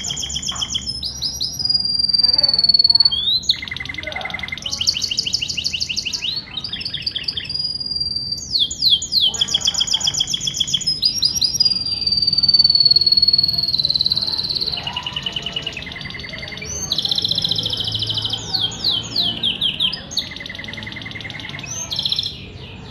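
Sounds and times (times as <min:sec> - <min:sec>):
canary singing trills: 0:00.0 - 0:22.9.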